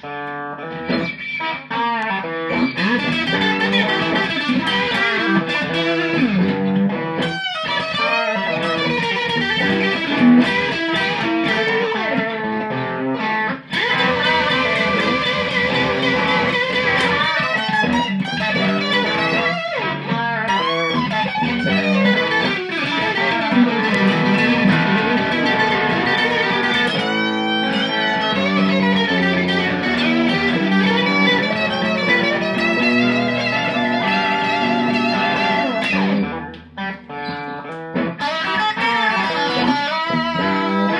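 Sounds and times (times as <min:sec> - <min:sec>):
electric guitar with vibrato: 0:00.0 - 0:40.9.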